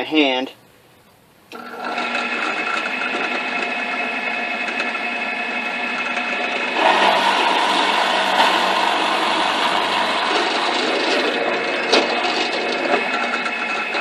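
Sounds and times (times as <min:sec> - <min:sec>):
drill press motor whining: 0:01.5 - 0:14.0
drill bit cutting wood: 0:01.6 - 0:14.0.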